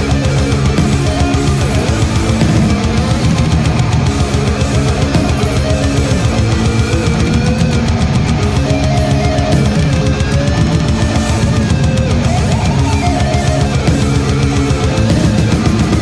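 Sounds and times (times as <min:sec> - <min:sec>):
distorted electric guitars: 0:00.0 - 0:16.0
drum kit: 0:00.0 - 0:16.0.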